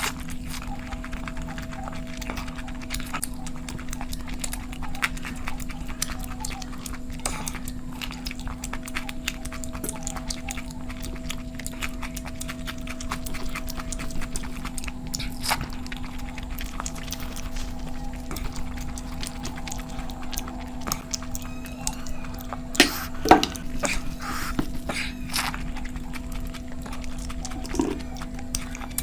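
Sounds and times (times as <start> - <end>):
chewing and mouth clicks: 0.0 - 29.0
steady hum: 0.0 - 29.0.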